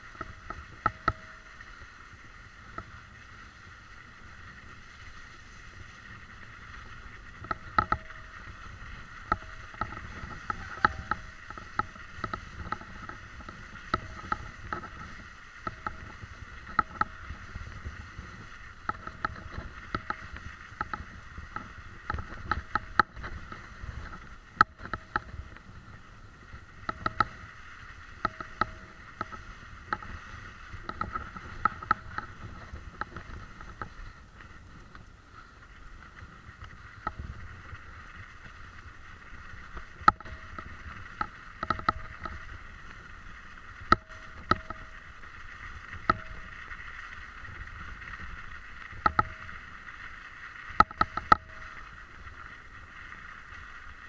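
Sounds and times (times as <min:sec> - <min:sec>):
wheels crunching on snow: 0:00.0 - 0:54.0
clicks and knocks from bumps: 0:00.1 - 0:03.0, 0:04.5 - 0:25.7, 0:26.5 - 0:35.1, 0:39.6 - 0:49.8, 0:50.6 - 0:53.6.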